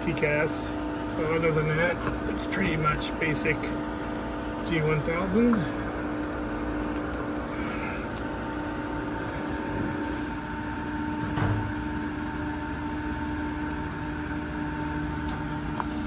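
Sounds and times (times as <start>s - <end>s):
electrical and fan hum: 0.0s - 16.0s.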